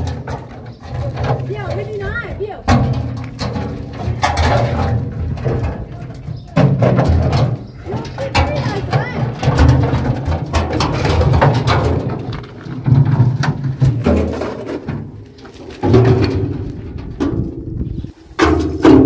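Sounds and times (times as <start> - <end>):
concrete blocks knocking and scraping: 0.0 - 19.0
low rumbling: 0.0 - 19.0.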